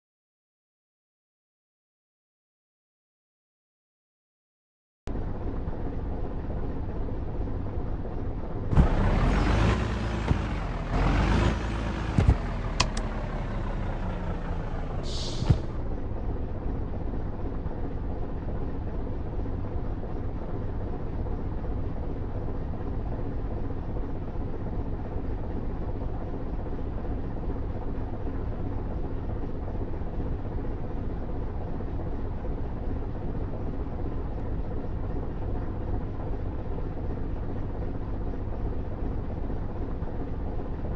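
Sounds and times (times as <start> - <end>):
truck engine drone: 5.1 - 40.9.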